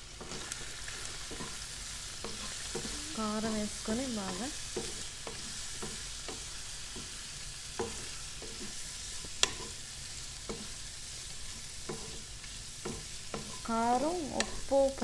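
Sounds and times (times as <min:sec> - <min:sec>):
liver sizzling in hot oil: 0:00.0 - 0:15.0.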